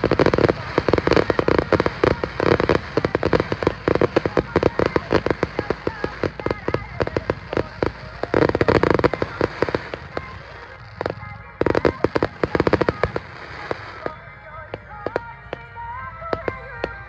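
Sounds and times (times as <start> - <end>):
fireworks crackling bangs: 0.0 - 17.0.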